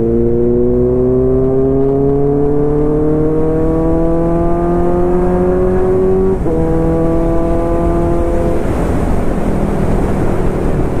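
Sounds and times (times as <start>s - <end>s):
motorcycle engine accelerating: 0.0s - 11.0s
wind rumble on microphone: 0.0s - 11.0s.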